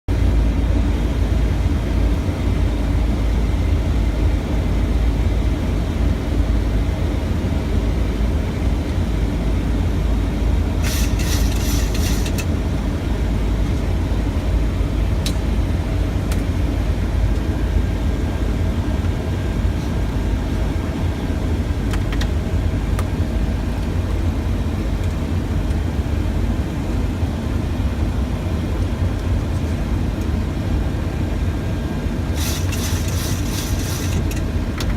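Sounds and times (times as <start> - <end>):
airflow and engine rumble: 0.1 - 34.9.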